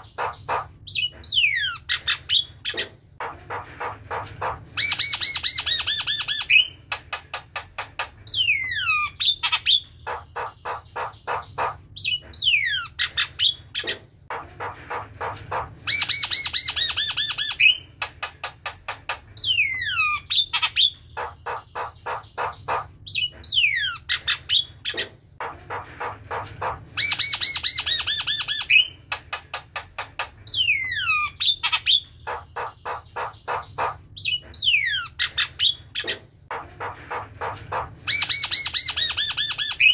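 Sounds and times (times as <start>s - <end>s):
myna bird singing: 0.0s - 39.9s.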